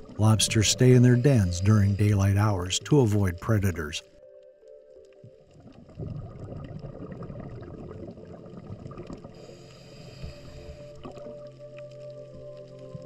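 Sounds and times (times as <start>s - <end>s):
underwater gurgling: 0.0s - 3.9s, 5.0s - 13.0s
soft background music: 0.0s - 13.0s.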